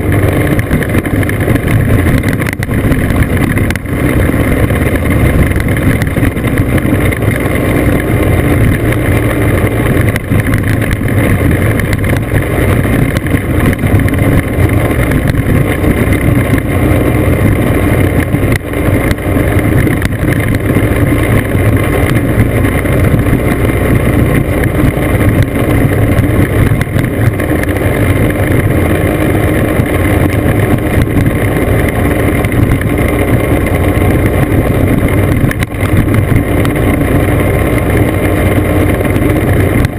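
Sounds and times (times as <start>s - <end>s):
scooter engine running: 0.0s - 39.9s
wind on microphone: 0.0s - 39.9s.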